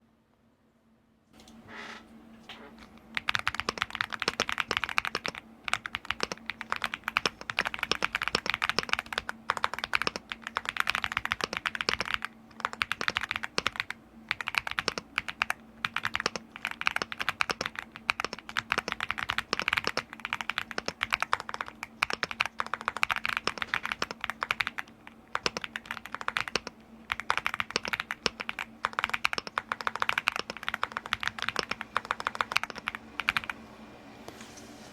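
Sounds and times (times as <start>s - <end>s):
mechanical keyboard typing: 2.8s - 33.6s.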